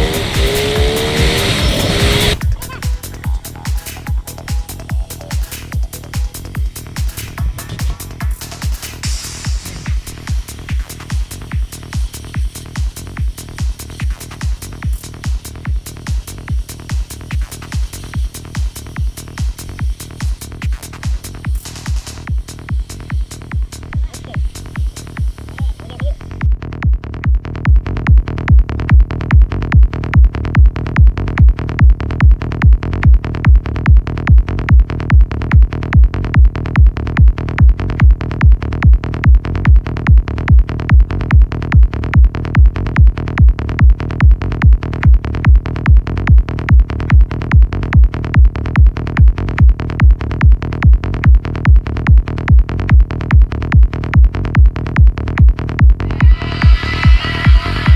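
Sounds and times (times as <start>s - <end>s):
electronic trance music: 0.0s - 57.9s.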